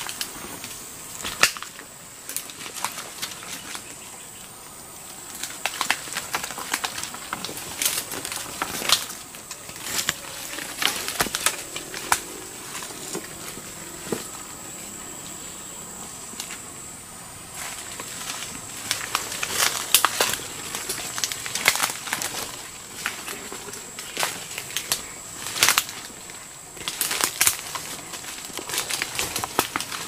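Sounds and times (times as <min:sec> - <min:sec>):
footsteps on dry leaves and twigs: 0:00.0 - 0:30.0
insect drone: 0:00.0 - 0:30.0.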